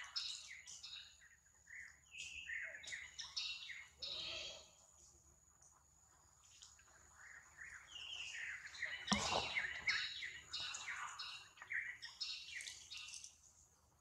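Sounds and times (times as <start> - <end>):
birds chirping: 0.0 - 4.7, 6.2 - 13.4.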